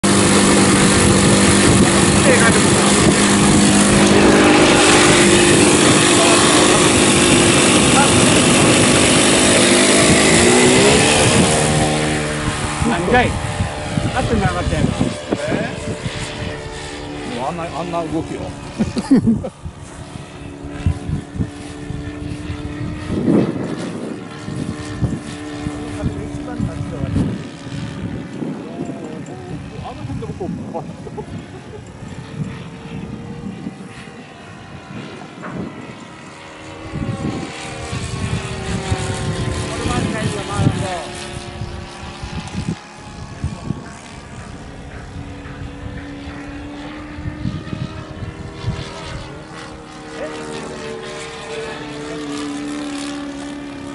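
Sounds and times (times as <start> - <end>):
model airplane engine droning: 0.0 - 53.9
wind buffeting microphone: 0.0 - 53.9.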